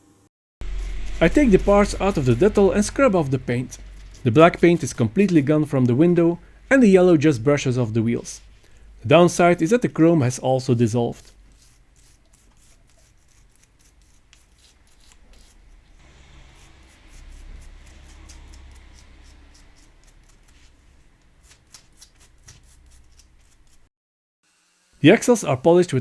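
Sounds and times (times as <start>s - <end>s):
brush scrubbing small parts: 0.6s - 23.9s.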